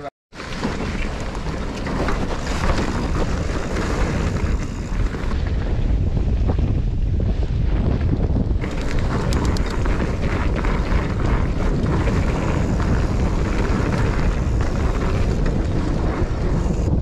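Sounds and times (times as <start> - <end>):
bike clicks and rattles: 0.4 - 17.0
wind rushing over microphone: 0.5 - 17.0.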